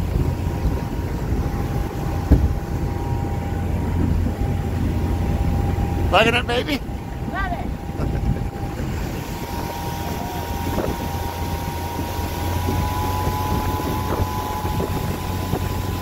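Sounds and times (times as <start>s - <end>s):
motorboat engine drone: 0.0s - 16.0s
rushing water: 0.0s - 16.0s
wind buffeting microphone: 0.0s - 16.0s.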